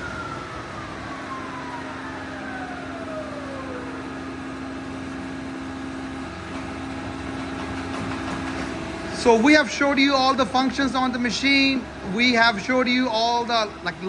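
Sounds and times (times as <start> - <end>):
lathe humming and whining: 0.0 - 14.0.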